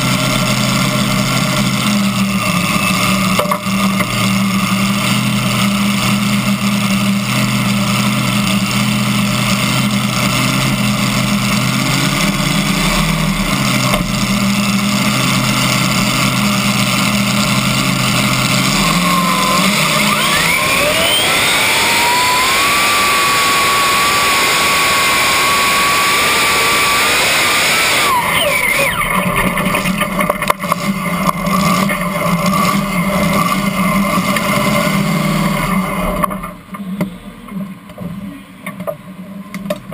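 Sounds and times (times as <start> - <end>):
tractor engine revving: 0.0 - 38.9.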